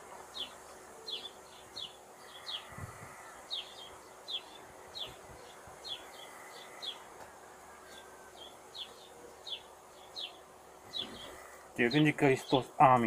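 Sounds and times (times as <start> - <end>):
faint outdoor background noise: 0.0 - 13.0
small bird chirping: 0.3 - 7.1, 7.9 - 11.6.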